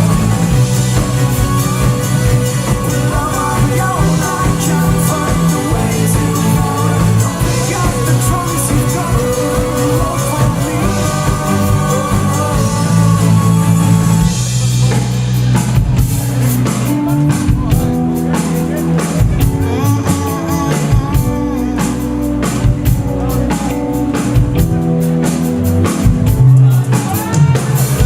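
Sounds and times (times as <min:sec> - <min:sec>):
bass guitar: 0:00.0 - 0:28.0
drum kit: 0:00.0 - 0:28.0
electric guitar: 0:00.0 - 0:28.0.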